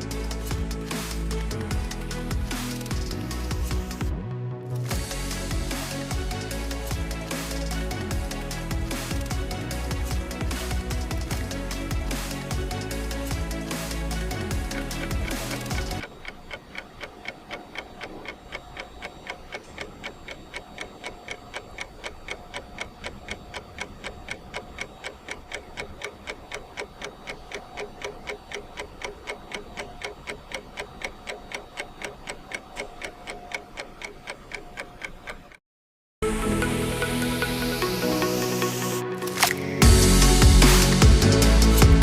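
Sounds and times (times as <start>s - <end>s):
mechanical ticking: 0.0s - 4.1s, 4.8s - 35.6s, 37.8s - 42.0s.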